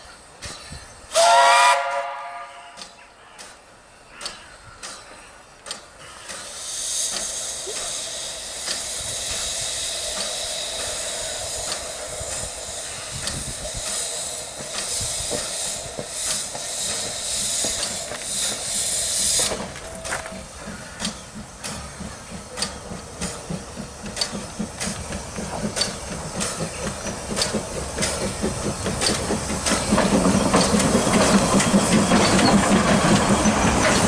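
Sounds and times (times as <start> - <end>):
loud steam hiss: 0.0 - 34.0
steam locomotive exhaust chuffs: 0.4 - 34.0.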